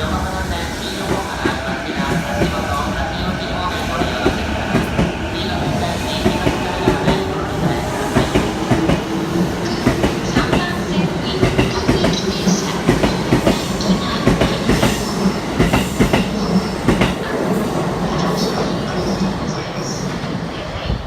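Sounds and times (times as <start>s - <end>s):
electric train running past: 0.0s - 21.0s.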